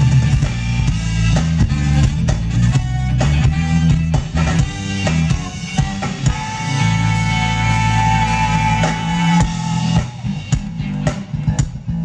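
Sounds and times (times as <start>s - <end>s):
funk band chord and bass: 0.0s - 12.0s.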